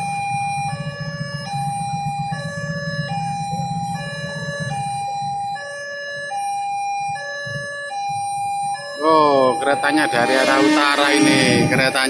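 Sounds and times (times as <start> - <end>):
low rumble of traffic: 0.0 - 12.0
two-tone crossing alarm: 0.0 - 12.0.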